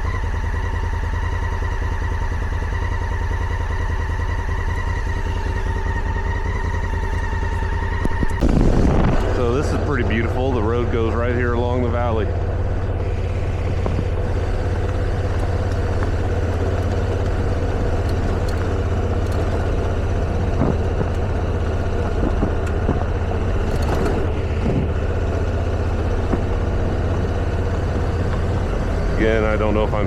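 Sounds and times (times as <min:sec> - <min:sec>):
gravel ticking under tyres: 0:00.0 - 0:30.0
motorcycle engine running: 0:00.0 - 0:30.0.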